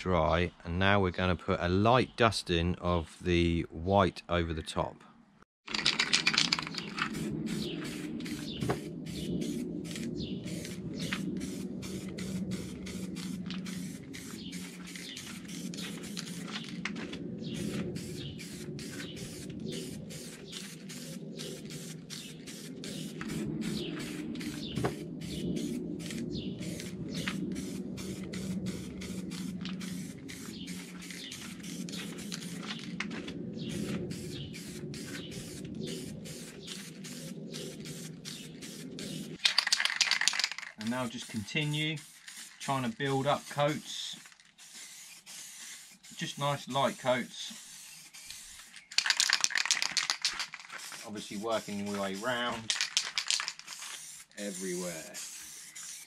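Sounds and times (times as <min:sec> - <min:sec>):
spray paint can hissing: 0:06.0 - 0:56.0.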